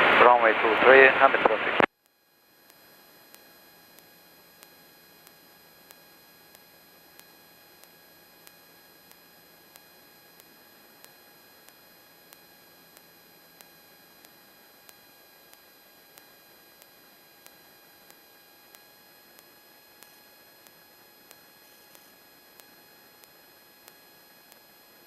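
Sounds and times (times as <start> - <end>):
faint radio hiss: 0.0 - 6.2, 8.8 - 25.0
soft ticks: 2.0 - 24.7.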